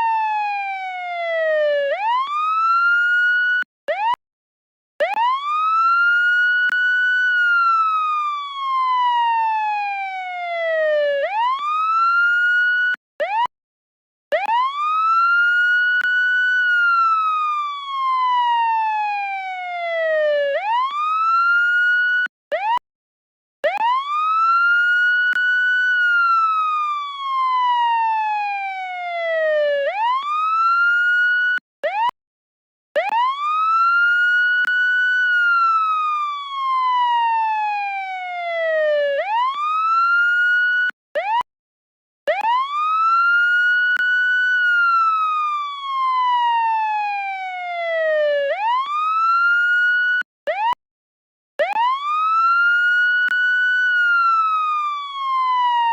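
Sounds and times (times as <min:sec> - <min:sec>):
police siren wailing: 0:00.0 - 0:04.2, 0:05.0 - 0:13.5, 0:14.3 - 0:22.8, 0:23.6 - 0:32.1, 0:33.0 - 0:41.4, 0:42.3 - 0:50.8, 0:51.6 - 0:55.9.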